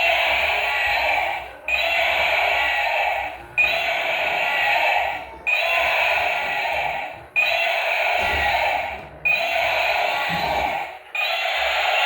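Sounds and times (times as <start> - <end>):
toy electronic sound effect: 0.0 - 12.0.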